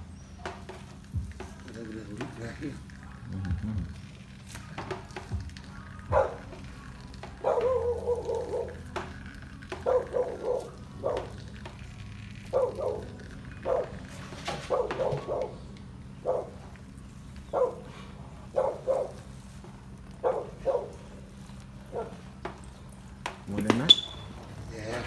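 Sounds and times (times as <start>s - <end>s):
dog barking: 2.2s - 25.0s.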